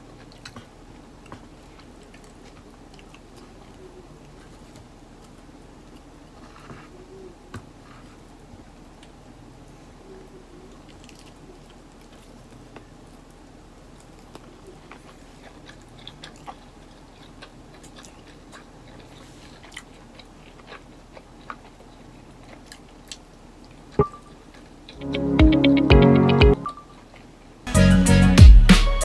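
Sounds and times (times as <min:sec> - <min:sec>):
person chewing: 0:00.0 - 0:08.2, 0:10.7 - 0:25.7
faint room hum: 0:00.0 - 0:28.6.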